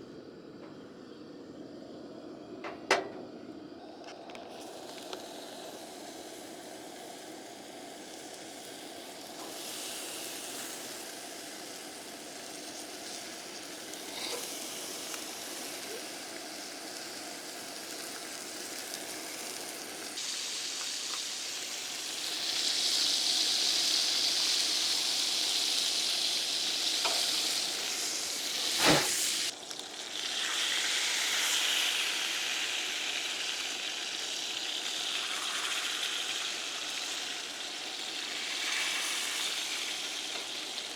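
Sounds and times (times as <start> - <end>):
bacon sizzling in a pan: 4.5 - 40.9.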